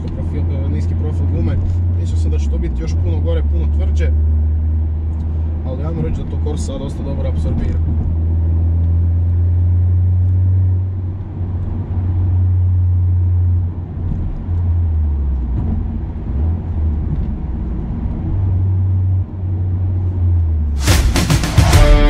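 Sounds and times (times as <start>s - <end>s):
car engine drone from inside cabin: 0.0s - 21.0s.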